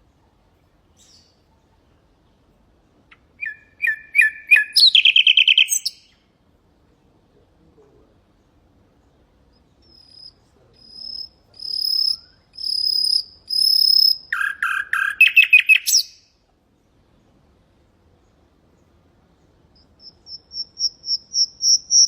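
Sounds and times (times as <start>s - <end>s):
nightingale singing: 0.0s - 2.0s, 2.8s - 6.3s, 8.3s - 17.2s, 18.0s - 22.0s.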